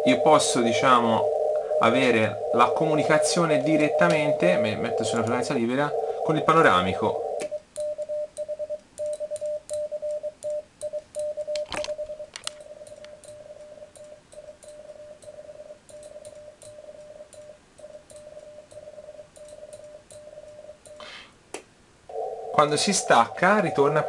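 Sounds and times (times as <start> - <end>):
morse code tone: 0.0 - 21.0.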